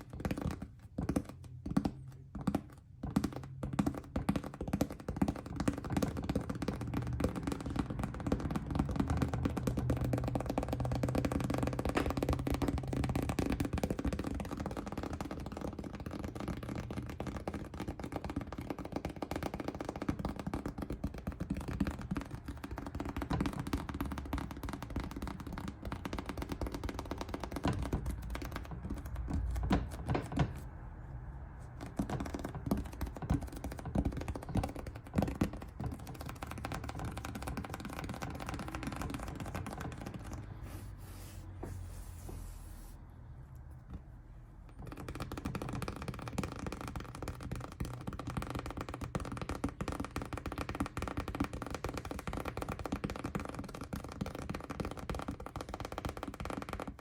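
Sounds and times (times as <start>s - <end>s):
tapping and clicking: 0.0s - 30.6s, 31.7s - 40.6s, 44.7s - 57.0s.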